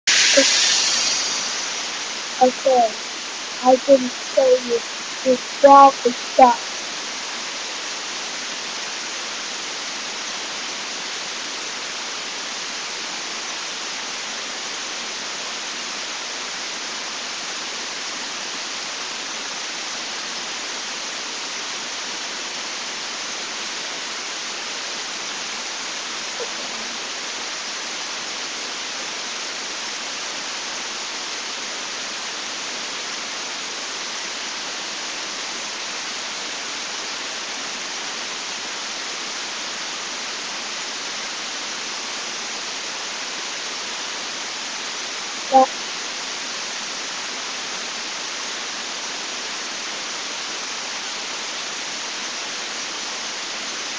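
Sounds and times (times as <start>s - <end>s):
microphone hiss: 0.0s - 53.9s.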